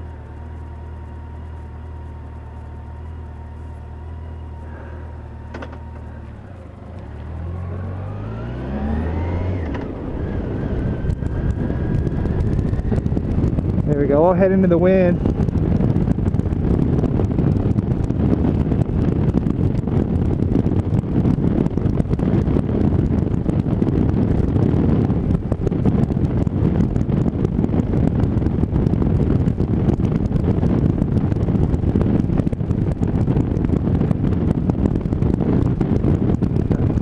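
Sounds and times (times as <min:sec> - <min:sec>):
motorcycle running: 0:00.0 - 0:37.0
road noise: 0:00.0 - 0:37.0
wind buffeting microphone: 0:00.0 - 0:37.0.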